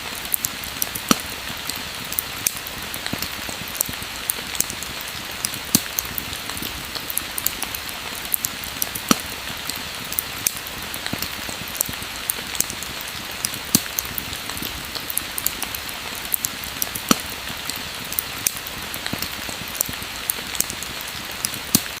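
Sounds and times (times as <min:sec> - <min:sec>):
pouring rain: 0:00.0 - 0:22.0
wood fire crackling: 0:00.0 - 0:22.0.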